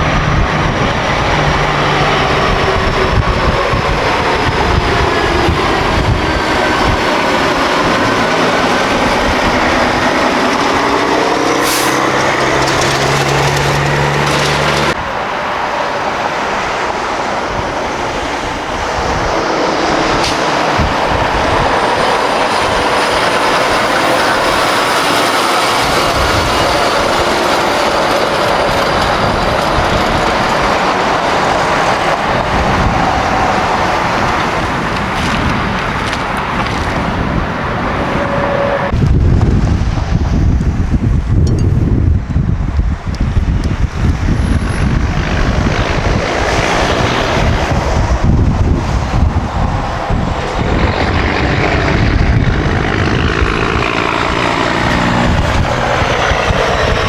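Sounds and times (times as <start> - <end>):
roar of tyres and diesel engines: 0.0 - 57.0
trucks passing close by: 0.0 - 57.0.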